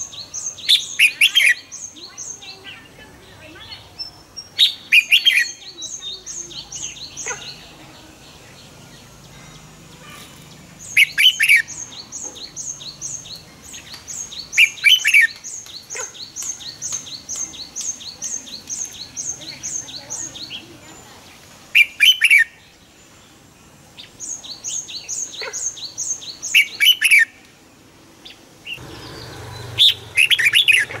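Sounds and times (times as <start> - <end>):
bird singing warbling phrases: 0.0 - 27.4, 28.2 - 31.0.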